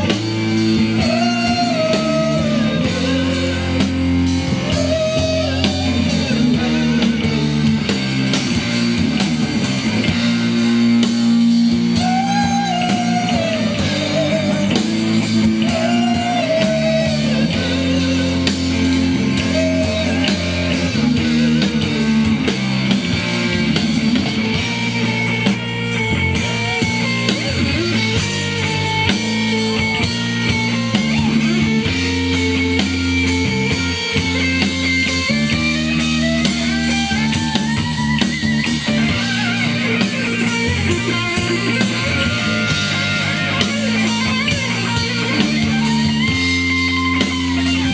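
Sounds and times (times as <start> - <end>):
drum kit: 0.0 - 47.9
electric guitar: 0.0 - 47.9.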